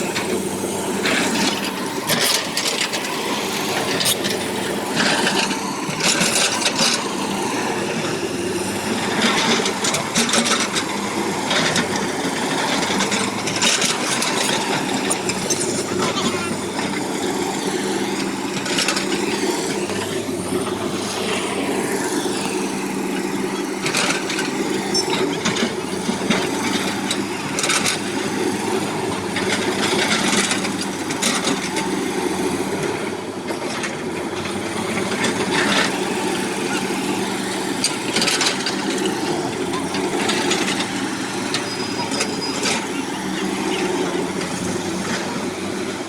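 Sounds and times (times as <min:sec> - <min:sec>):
excavator engine running: 0:00.0 - 0:46.0.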